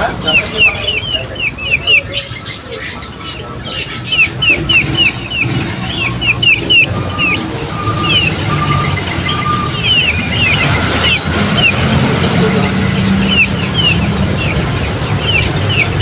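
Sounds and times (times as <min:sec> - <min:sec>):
small songbirds chirping: 0:00.0 - 0:16.0
whistled bird notes: 0:00.0 - 0:16.0.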